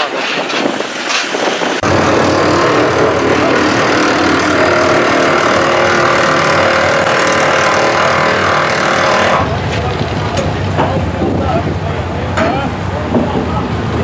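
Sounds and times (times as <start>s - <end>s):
loud engine running: 1.8s - 14.0s.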